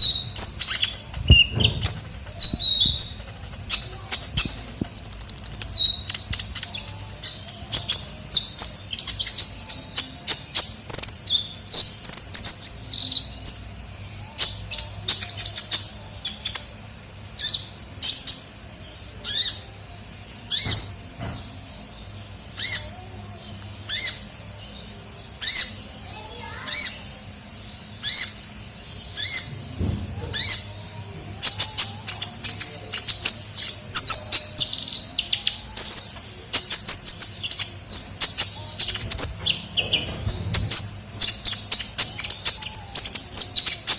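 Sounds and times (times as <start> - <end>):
bird chirps and trills: 0.0 - 43.9.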